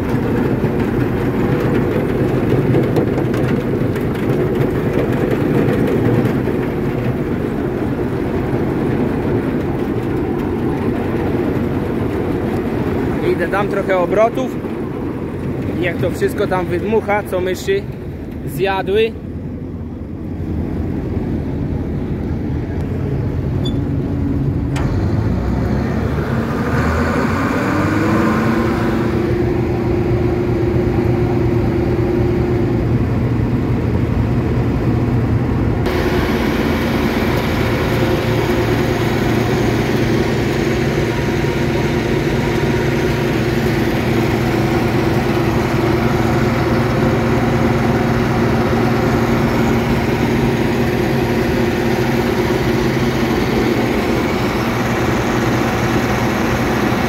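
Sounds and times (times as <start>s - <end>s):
combine harvester engine revving: 0.0s - 57.0s.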